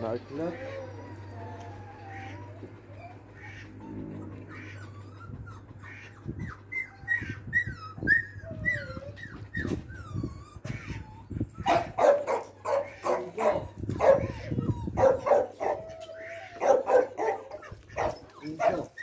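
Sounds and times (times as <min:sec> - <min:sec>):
dogs barking loudly: 0:00.0 - 0:08.1, 0:10.6 - 0:19.0
dogs whining: 0:00.0 - 0:19.0.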